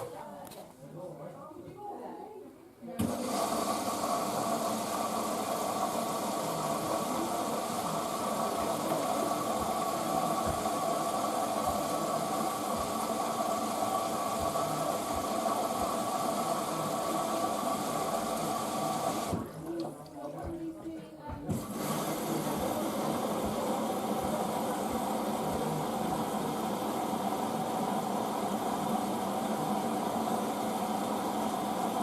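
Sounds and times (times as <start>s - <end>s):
washing machine humming: 3.0s - 32.0s.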